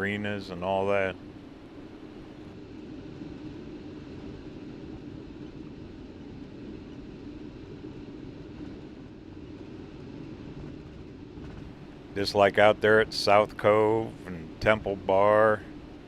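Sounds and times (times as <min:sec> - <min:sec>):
vehicle road and engine drone: 0:00.0 - 0:16.0.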